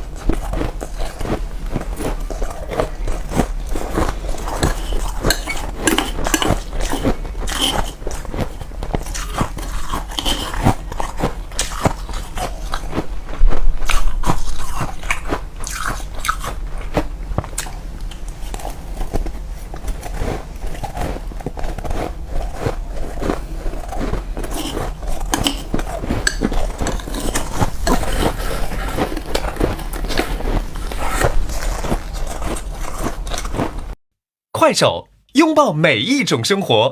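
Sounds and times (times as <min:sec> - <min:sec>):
person chewing crunchy frost: 0:00.0 - 0:34.0.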